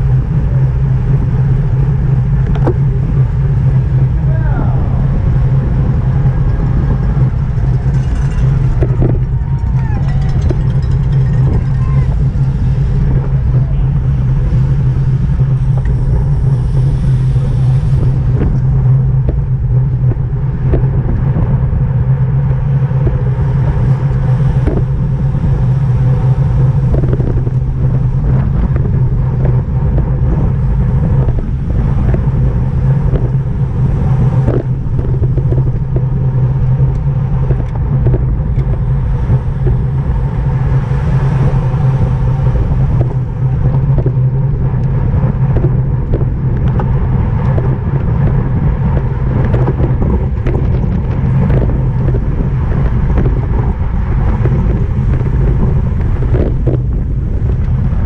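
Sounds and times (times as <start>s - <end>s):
bicycle road rumble: 0.0s - 58.0s
wind rush on microphone: 0.0s - 58.0s.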